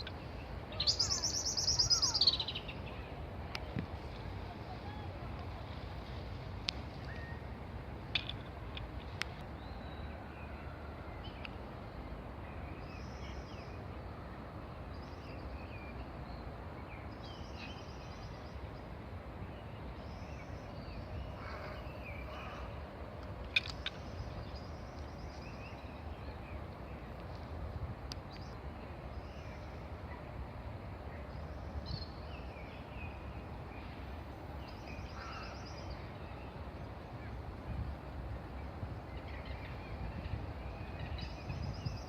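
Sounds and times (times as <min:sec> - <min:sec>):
night birds chirping: 0:00.0 - 0:03.3, 0:09.2 - 0:27.2, 0:28.2 - 0:37.7, 0:38.4 - 0:42.0.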